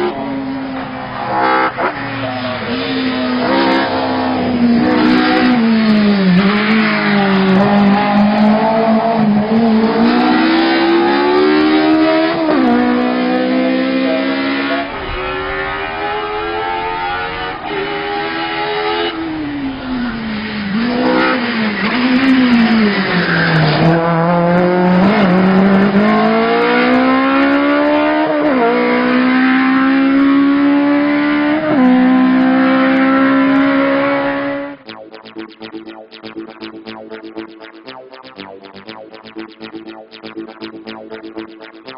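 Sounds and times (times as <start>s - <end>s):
race car engine revving: 0.0s - 37.8s.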